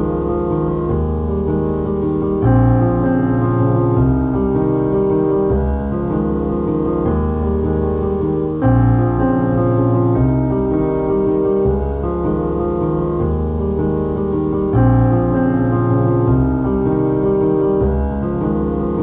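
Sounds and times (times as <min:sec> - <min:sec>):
keyboard chords: 0:00.0 - 0:19.0.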